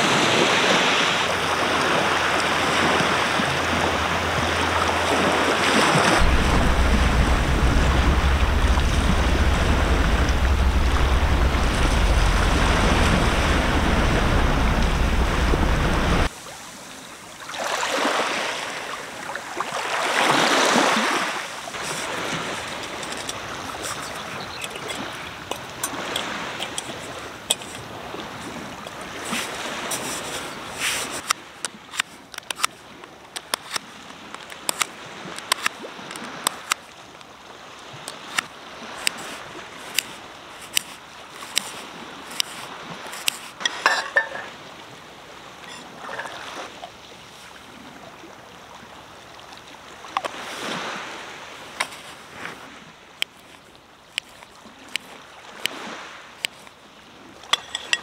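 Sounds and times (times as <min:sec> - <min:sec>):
sea waves washing onto beach: 0:00.0 - 0:58.0.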